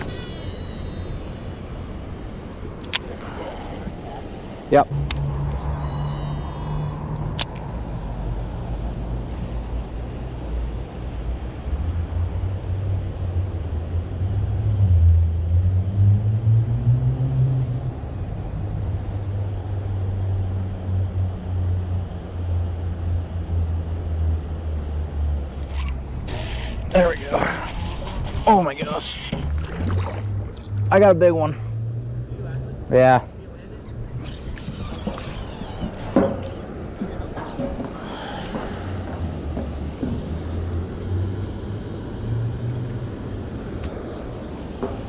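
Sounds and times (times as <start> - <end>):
motor vehicle engine rumble: 0.0 - 45.0.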